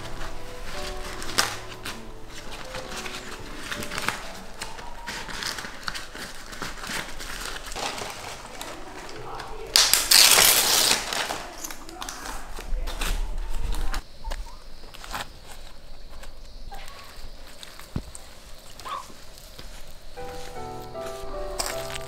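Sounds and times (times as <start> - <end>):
dried leaves crackling: 0.0 - 22.0.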